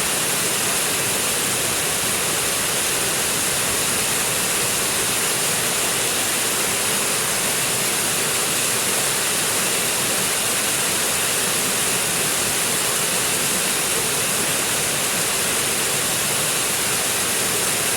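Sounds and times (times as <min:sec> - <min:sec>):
stream water rushing: 0:00.0 - 0:17.9.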